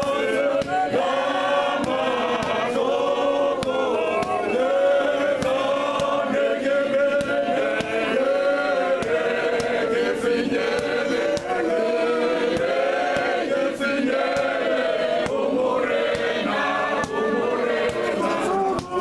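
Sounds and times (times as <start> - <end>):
handclaps: 0.0 - 19.0
men's choir singing a cappella: 0.0 - 19.0.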